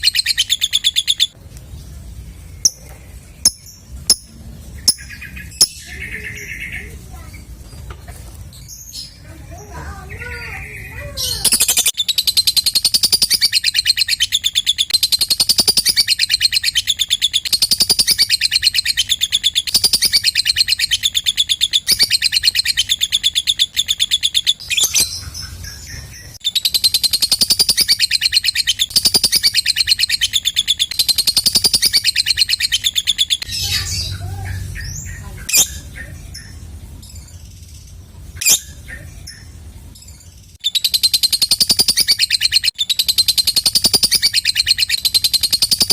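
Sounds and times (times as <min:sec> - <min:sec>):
lovebird chattering trill: 0:00.0 - 0:01.4, 0:02.5 - 0:07.5, 0:08.7 - 0:45.9
bird calls and chirps: 0:00.0 - 0:45.9.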